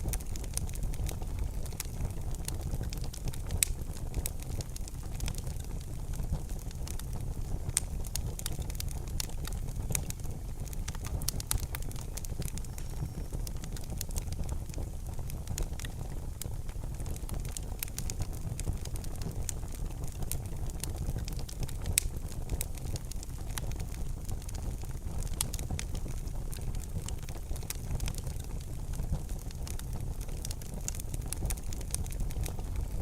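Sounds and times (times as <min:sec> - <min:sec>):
low rumble of flames: 0:00.0 - 0:33.0
wood fire crackling: 0:00.0 - 0:33.0.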